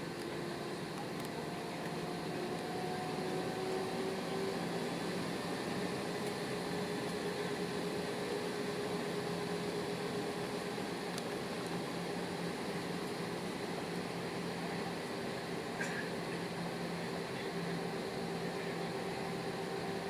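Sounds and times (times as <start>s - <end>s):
jet engines humming in cabin: 0.0s - 20.0s.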